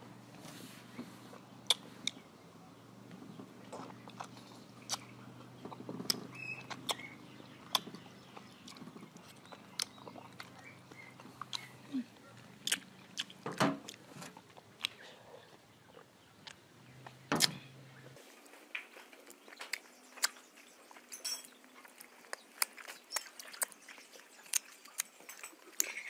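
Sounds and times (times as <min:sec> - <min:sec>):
person chewing: 0:01.2 - 0:02.2, 0:03.6 - 0:17.6, 0:18.4 - 0:26.0
lips and teeth smacking: 0:01.6 - 0:02.2, 0:03.7 - 0:17.6, 0:19.1 - 0:26.0.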